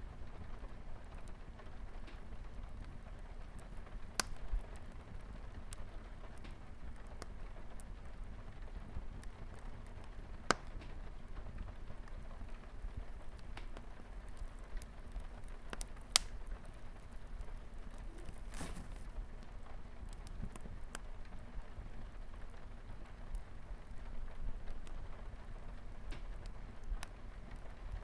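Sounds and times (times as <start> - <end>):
light rain pattering on window: 0.0 - 28.0
wood fire crackling: 0.0 - 28.0.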